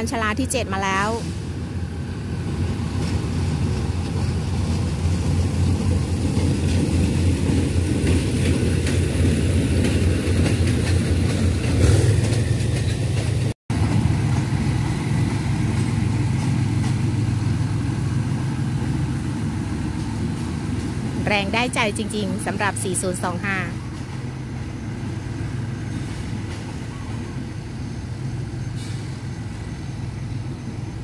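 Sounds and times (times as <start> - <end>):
locomotive engine drone: 0.0 - 31.0.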